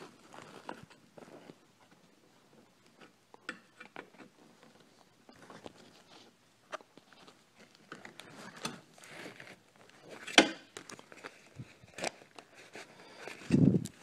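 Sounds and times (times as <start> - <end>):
rustling: 0.0 - 3.2, 3.8 - 14.0.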